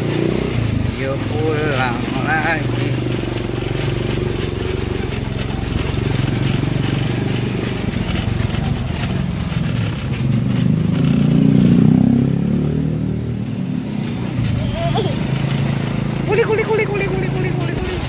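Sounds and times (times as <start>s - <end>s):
small motorcycle engine running: 0.0s - 18.0s.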